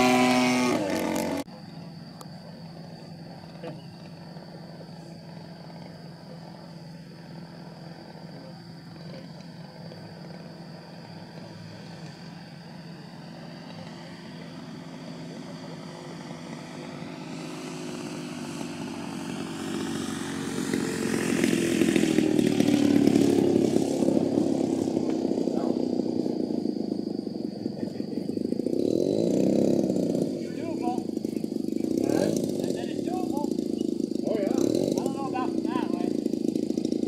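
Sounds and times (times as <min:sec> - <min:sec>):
model plane engine running: 0:00.0 - 0:37.0.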